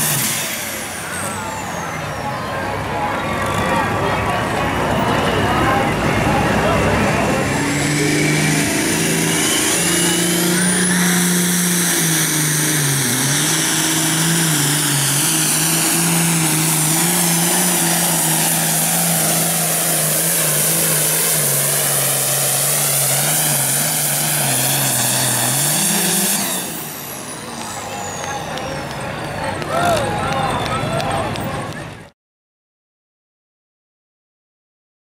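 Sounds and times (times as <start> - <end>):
diesel tractor engine at full throttle: 0.0 - 32.1.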